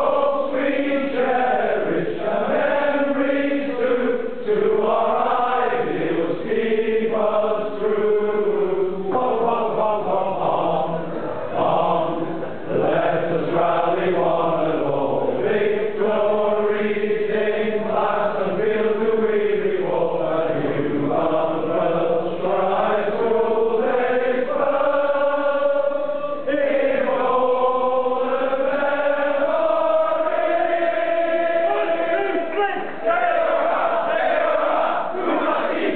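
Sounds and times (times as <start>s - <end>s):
group of men singing: 0.0s - 35.9s.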